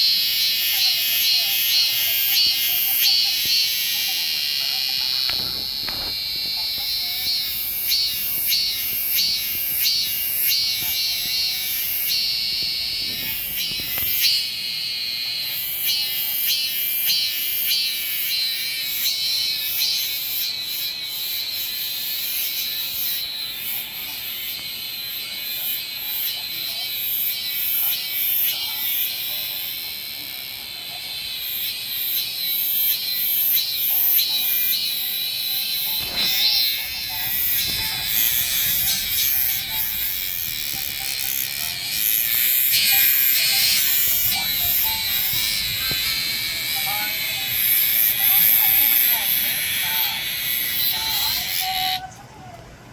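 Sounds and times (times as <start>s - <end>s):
cicada singing: 0.0s - 52.2s.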